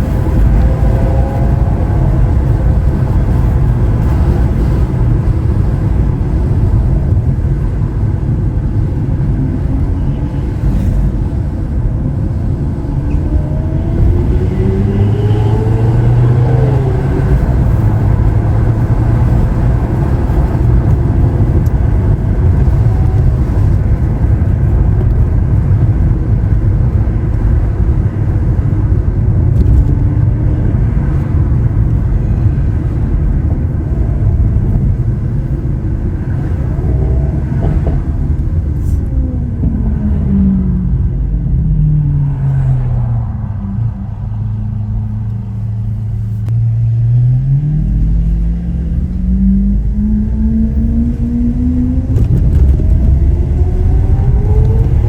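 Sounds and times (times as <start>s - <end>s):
road noise rumble: 0.0s - 55.0s
sports car engine: 0.0s - 55.0s.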